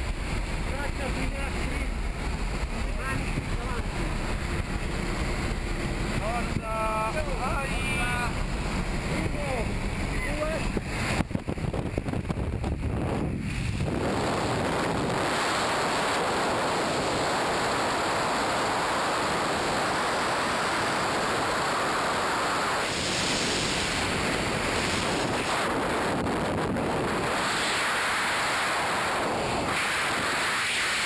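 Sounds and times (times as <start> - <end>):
rushing air on microphone: 0.0 - 31.0.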